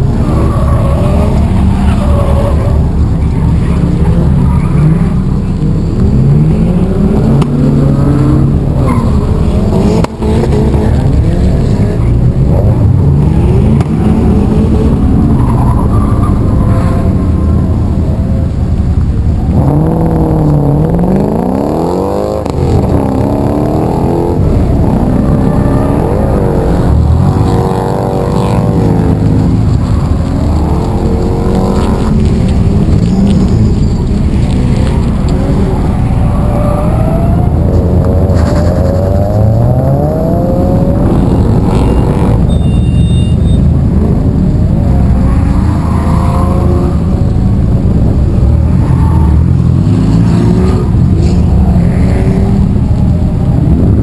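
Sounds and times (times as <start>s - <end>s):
car engine running and revving: 0.0s - 54.0s.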